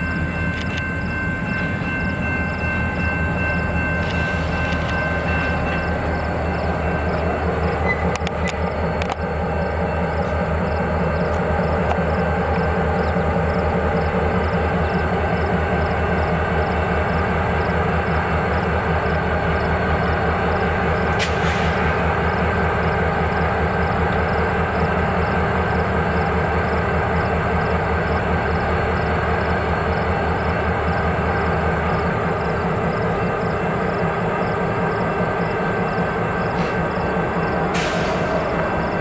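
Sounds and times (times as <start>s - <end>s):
train wheels on rails: 0.0s - 39.0s.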